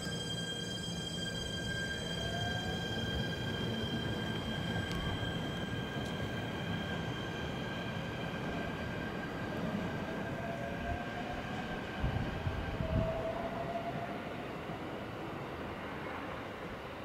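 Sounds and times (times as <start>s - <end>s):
electric train high whine: 0.0s - 17.0s.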